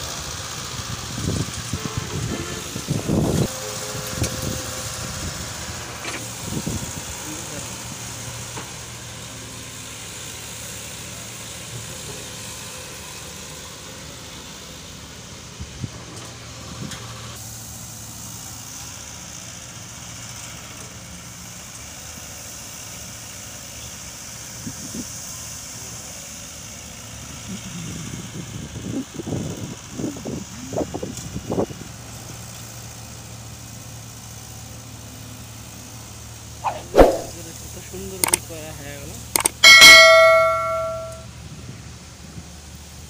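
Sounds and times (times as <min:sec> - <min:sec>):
heavy vehicle engine idling: 0:00.0 - 0:36.6.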